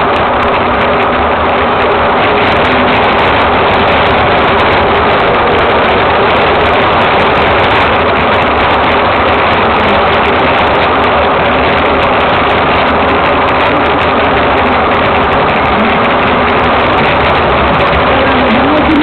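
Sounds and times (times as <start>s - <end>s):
wheels rolling on road: 0.0s - 19.0s.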